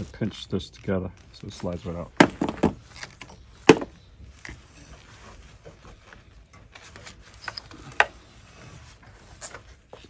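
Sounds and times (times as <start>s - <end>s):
gloved hands rubbing hoses: 0.0s - 2.1s, 2.8s - 10.0s.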